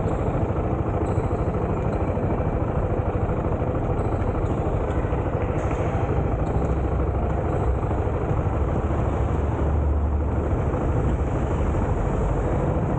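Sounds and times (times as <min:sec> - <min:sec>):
vehicle engine rumbling: 0:00.0 - 0:12.9.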